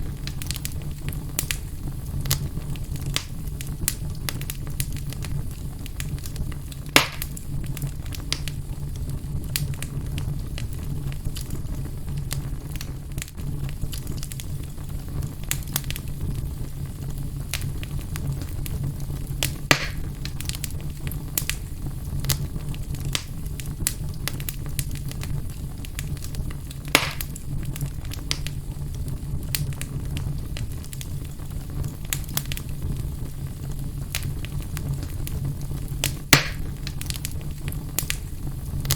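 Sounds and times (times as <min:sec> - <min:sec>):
fire pops: 0:00.0 - 0:38.9
wood fire crackling: 0:00.0 - 0:38.9.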